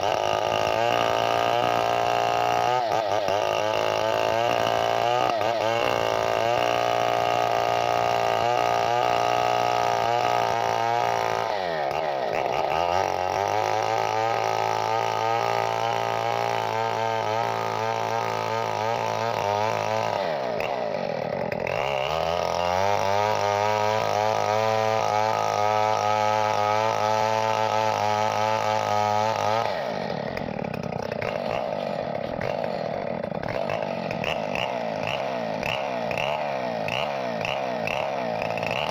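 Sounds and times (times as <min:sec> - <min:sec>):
two-stroke chainsaw running: 0:00.0 - 0:38.9.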